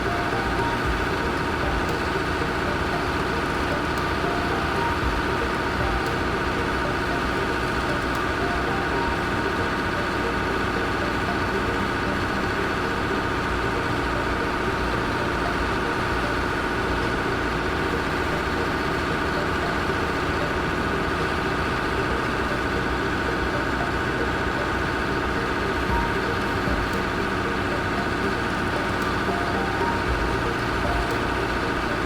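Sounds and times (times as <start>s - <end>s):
heavy vehicle engine running: 0.0s - 32.0s.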